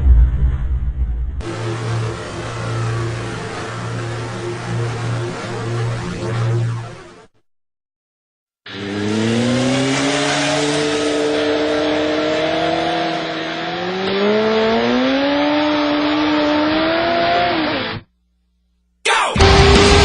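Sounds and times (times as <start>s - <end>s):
motorcycle engine accelerating: 0.0s - 7.2s, 8.7s - 18.1s, 19.4s - 20.0s.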